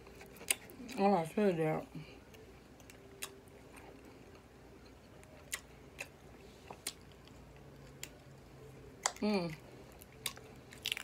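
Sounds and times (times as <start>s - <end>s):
quiet chewing: 0.0s - 1.0s, 2.0s - 11.0s.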